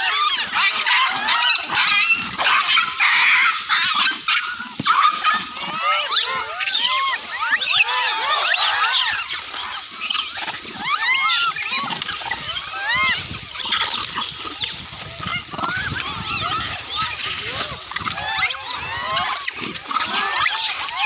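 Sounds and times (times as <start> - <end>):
animals squealing and chirping: 0.0 - 21.0.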